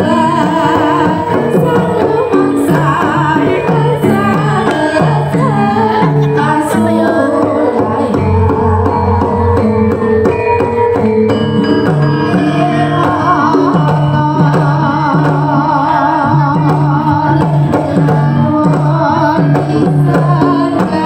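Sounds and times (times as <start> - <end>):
wavering high melody: 0.0 - 20.8
metallophones ringing: 0.0 - 21.0.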